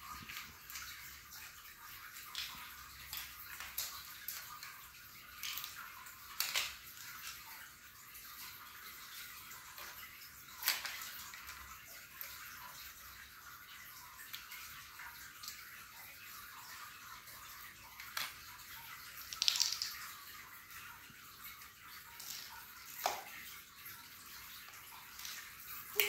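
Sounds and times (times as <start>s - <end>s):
plastic blocks clattering on tile: 0.0s - 13.0s, 16.9s - 26.0s.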